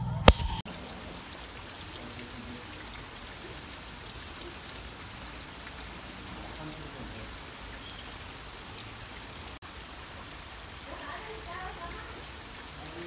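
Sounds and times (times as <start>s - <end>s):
rain falling on trees: 0.6s - 13.0s
faint drips: 0.7s - 13.0s.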